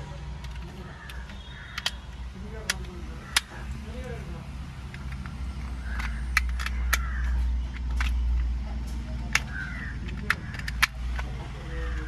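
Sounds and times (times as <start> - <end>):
plastic clips snapping: 0.4 - 4.2, 4.8 - 12.0.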